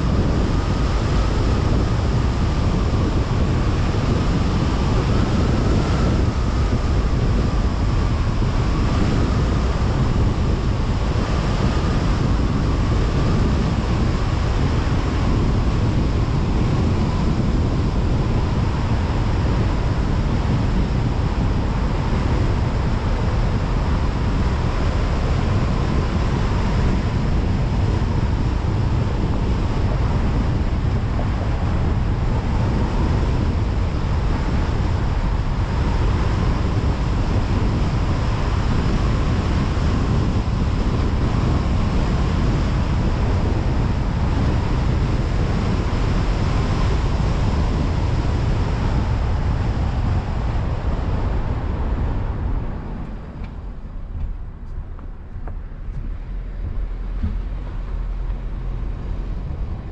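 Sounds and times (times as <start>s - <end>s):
faint whine: 0.0s - 59.9s
tyre and wind road rumble: 0.0s - 59.9s.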